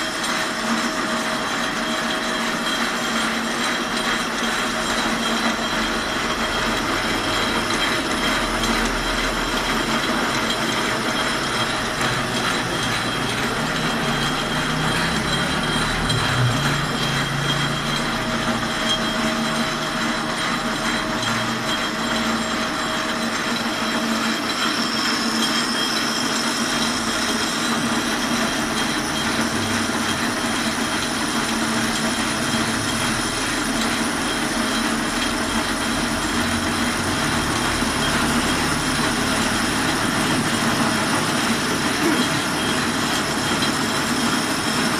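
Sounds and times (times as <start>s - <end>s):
lathe gear whine: 0.0s - 44.9s
metal lathe droning: 0.0s - 44.9s
high-pitched squeal: 6.9s - 44.9s.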